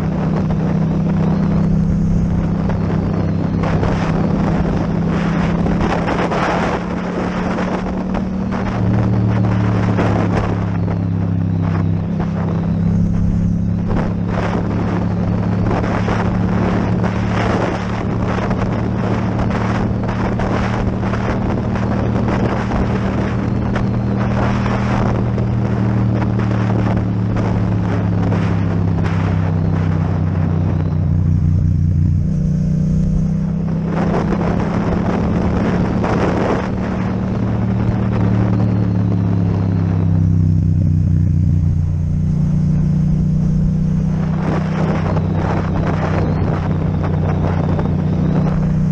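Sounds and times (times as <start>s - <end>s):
motorcycle engine cruising: 0.0s - 48.9s
wind rushing over microphone: 0.0s - 48.9s.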